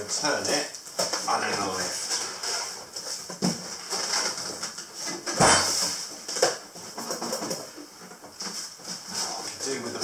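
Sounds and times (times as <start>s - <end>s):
cardboard rustling and scraping: 1.0s - 10.0s.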